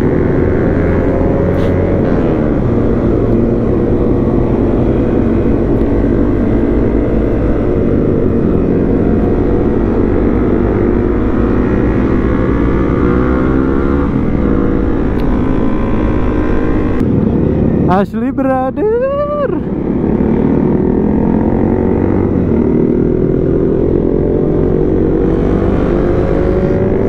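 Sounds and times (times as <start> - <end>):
motorcycle engine running: 0.0 - 18.0, 19.6 - 27.0
other motorcycles riding: 0.0 - 27.0.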